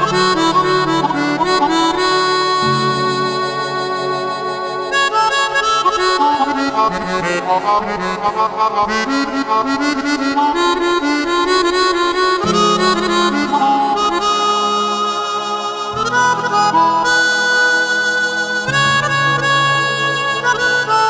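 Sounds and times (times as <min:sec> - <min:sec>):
synthesizer melodica melody: 0:00.0 - 0:21.0.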